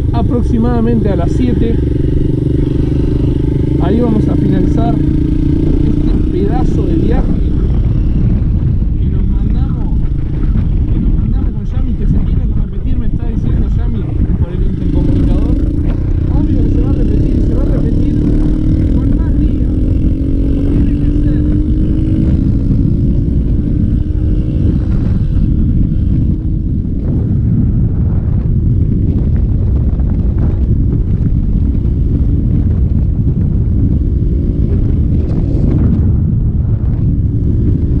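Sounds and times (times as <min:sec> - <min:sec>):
motorcycle engine running: 0:00.0 - 0:38.0
wind on microphone: 0:00.0 - 0:38.0.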